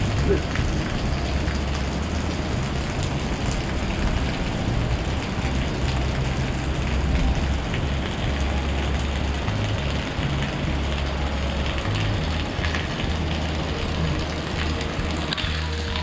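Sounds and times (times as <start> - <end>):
low rumble: 0.0 - 16.0
rain on a wet street: 0.0 - 16.0.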